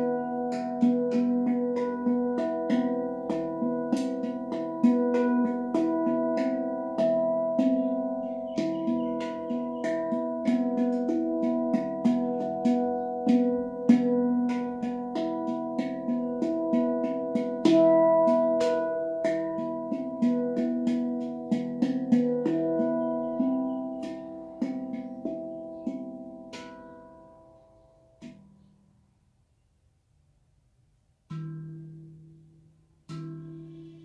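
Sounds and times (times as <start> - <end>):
handpan ringing steel notes: 0.0 - 28.7, 31.3 - 34.0.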